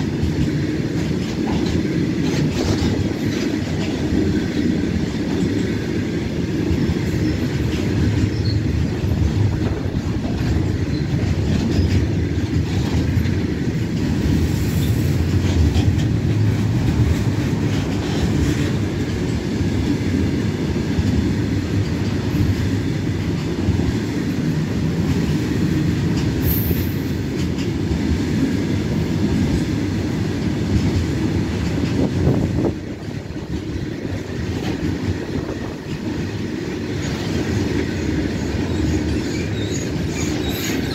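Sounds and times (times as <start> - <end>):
freight train wheels rumbling: 0.0 - 40.9
wheels clattering over rail joints: 0.0 - 40.9.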